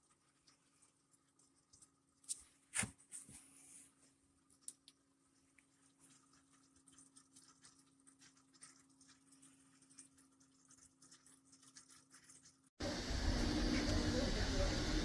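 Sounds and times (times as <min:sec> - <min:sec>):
faint water ticks and patters: 0:00.0 - 0:14.9
faint pump hum: 0:00.0 - 0:15.0.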